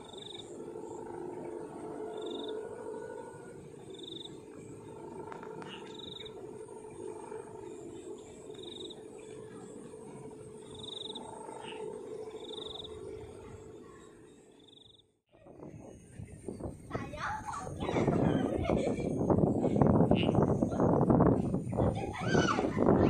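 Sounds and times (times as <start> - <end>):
kite hummers droning: 0.0 - 23.0.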